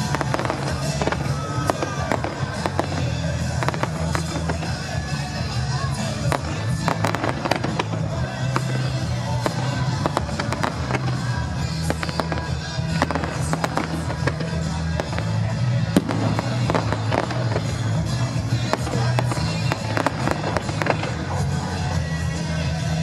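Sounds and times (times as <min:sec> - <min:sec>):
fireworks bangs and crackles: 0:00.0 - 0:23.0
music with low bass line: 0:00.0 - 0:23.0.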